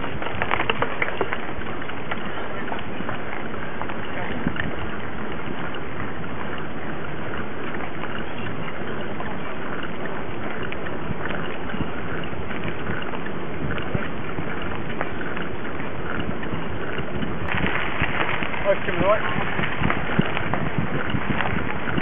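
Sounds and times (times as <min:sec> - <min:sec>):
bike clicking over bumps: 0:00.0 - 0:22.0
bike tyre rolling on track: 0:00.0 - 0:22.0
wind noise on microphone: 0:00.0 - 0:22.0.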